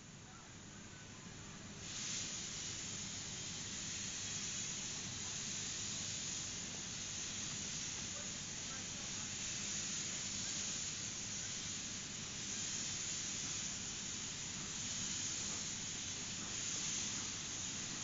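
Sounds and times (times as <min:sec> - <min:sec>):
steam locomotive hissing steam: 0:01.2 - 0:18.0.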